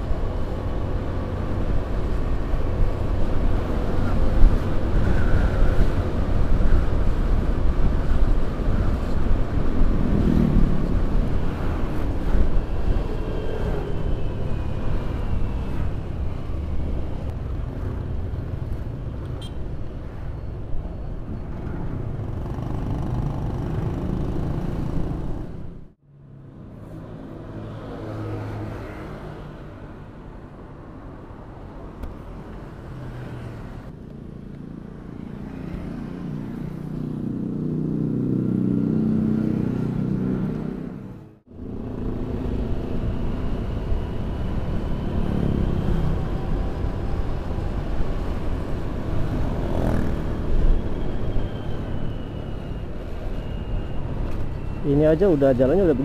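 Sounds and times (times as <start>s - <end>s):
scooter engine and road noise: 0.0s - 56.0s
steady traffic: 0.0s - 56.0s.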